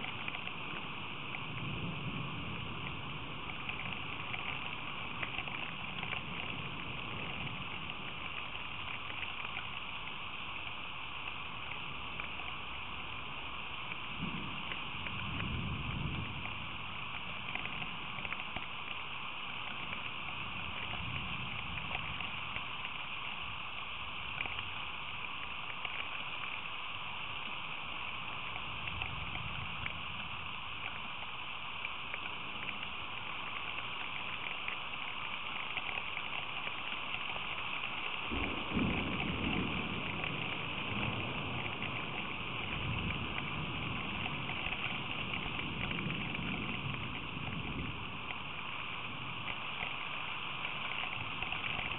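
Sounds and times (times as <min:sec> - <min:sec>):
steady rain pouring: 0:00.0 - 0:51.9.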